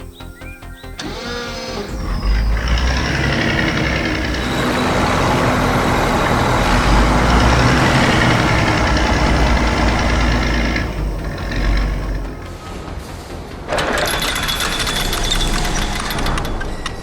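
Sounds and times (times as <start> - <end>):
heavy vehicle engine rumbling: 1.0 - 17.0.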